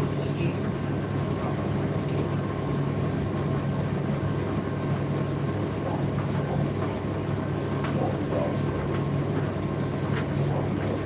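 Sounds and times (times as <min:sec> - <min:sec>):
tumble dryer drone: 0:00.0 - 0:11.0.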